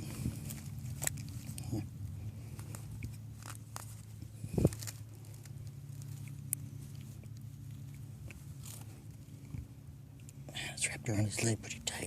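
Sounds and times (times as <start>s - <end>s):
hands rustling fishing line: 0.0s - 9.8s
low hum: 0.0s - 12.0s.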